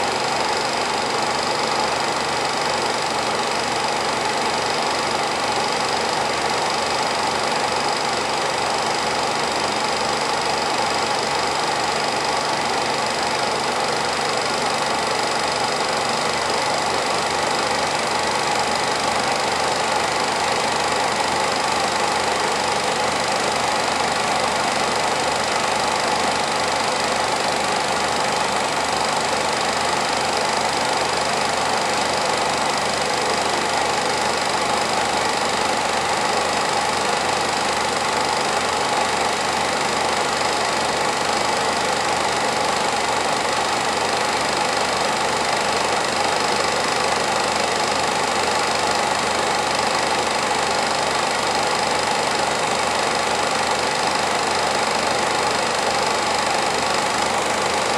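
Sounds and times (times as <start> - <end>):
film projector whirring and clattering: 0.0 - 57.9.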